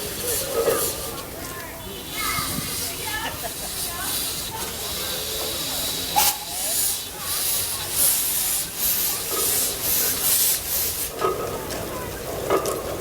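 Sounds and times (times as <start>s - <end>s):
steam hissing in surges: 0.0s - 1.3s, 2.1s - 11.6s.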